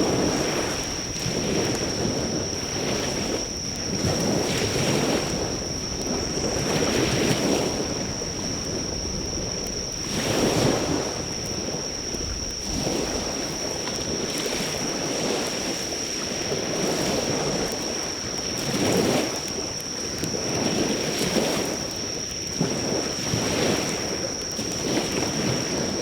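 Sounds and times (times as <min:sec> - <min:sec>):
campfire crackling faintly: 0:00.0 - 0:26.0
insects trilling: 0:00.0 - 0:26.0
sea waves washing onto shore: 0:00.0 - 0:26.0.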